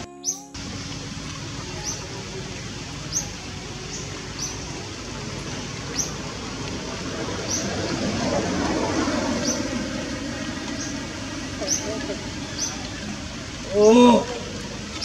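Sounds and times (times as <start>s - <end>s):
bird chirping: 0.0s - 6.6s, 7.4s - 8.3s, 9.1s - 15.0s
steady hiss: 0.0s - 15.0s.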